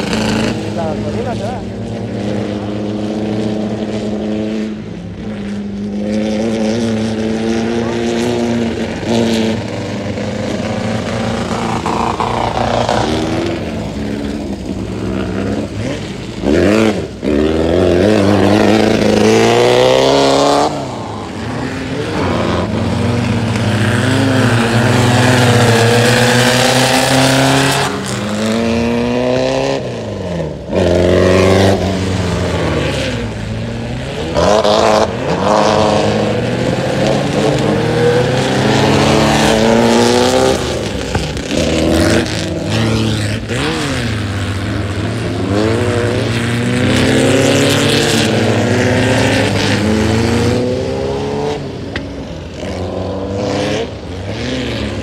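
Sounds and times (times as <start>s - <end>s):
off-road buggy engines revving: 0.0s - 55.0s.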